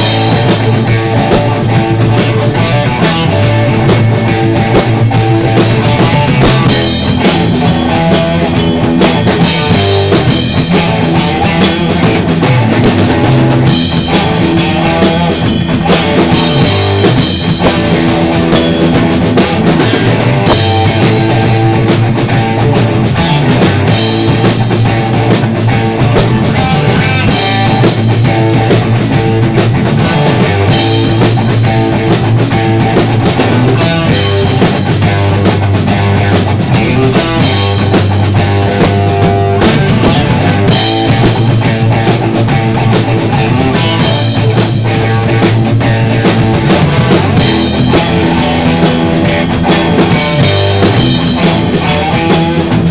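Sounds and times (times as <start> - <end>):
bass: 0.0 - 52.9
drum kit: 0.0 - 52.9
guitar: 0.0 - 52.9.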